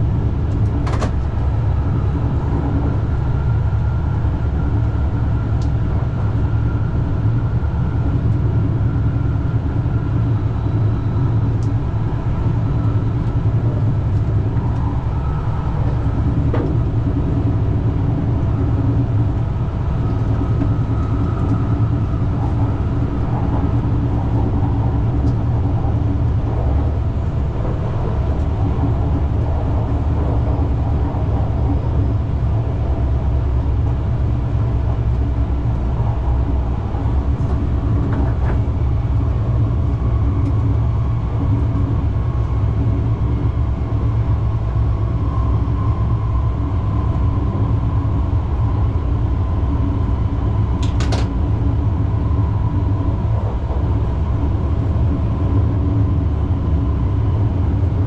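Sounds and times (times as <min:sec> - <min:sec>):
train low rumble from inside: 0:00.0 - 0:58.0.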